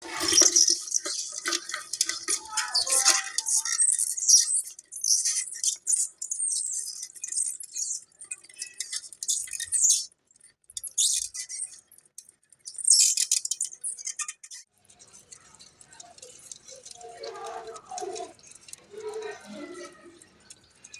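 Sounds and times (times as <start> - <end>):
crabs crackling and clicking: 0.0 - 20.9.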